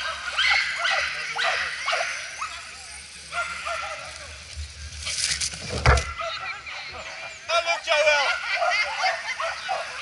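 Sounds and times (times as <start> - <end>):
dogs yipping and barking: 0.0 - 4.4, 5.0 - 7.5, 8.1 - 10.0.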